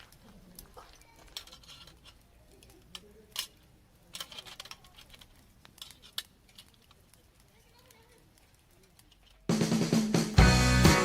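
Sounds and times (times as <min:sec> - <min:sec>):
handling clicks and rustles: 0:00.0 - 0:09.5.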